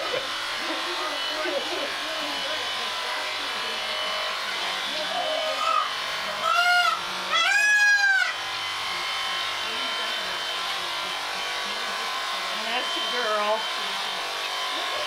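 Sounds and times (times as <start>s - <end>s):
electric sheep shears buzzing: 0.0s - 15.0s.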